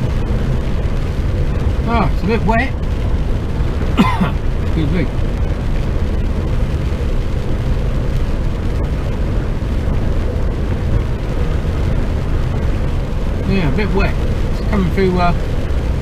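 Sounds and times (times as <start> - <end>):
truck engine drone: 0.0 - 16.0
tyre noise on wet road: 0.0 - 16.0.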